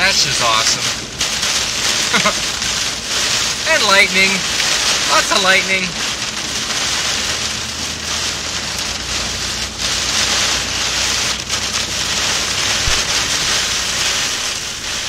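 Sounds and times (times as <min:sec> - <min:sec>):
heavy rain on car roof: 0:00.0 - 0:15.0.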